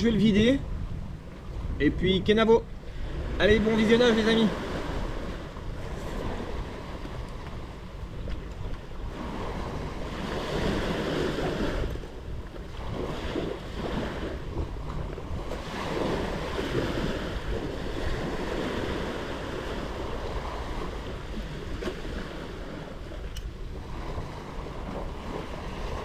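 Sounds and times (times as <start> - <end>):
waves breaking on sandy beach: 0.0 - 26.0.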